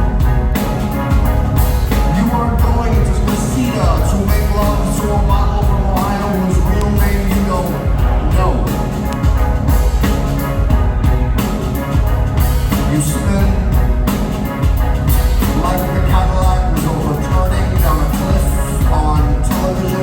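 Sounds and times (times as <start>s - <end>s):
drum beat: 0.0s - 20.0s
heavy bass line: 0.0s - 20.0s
live rock band instrumental: 0.0s - 20.0s.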